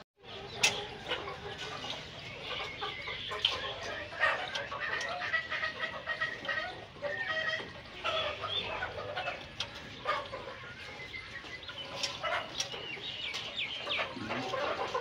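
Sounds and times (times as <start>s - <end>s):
chickens clucking: 0.2s - 15.0s.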